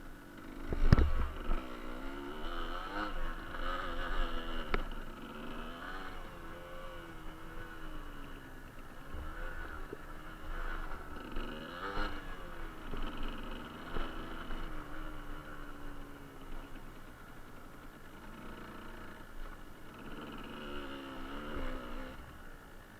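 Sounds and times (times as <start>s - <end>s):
two-stroke motorcycle engine: 0.0s - 22.9s.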